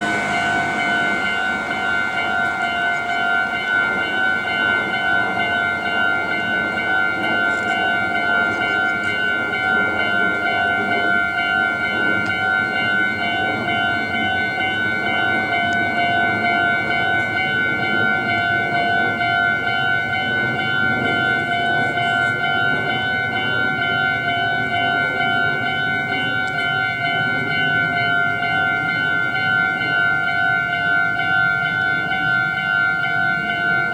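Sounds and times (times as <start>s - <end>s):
level crossing alarm bell: 0.0s - 33.9s.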